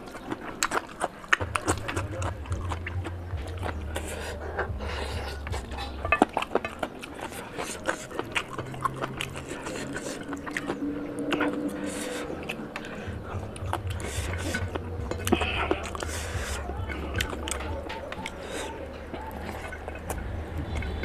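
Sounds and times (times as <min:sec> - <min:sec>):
close chewing: 0:00.0 - 0:21.0
sharp mouth clicks: 0:00.0 - 0:21.0.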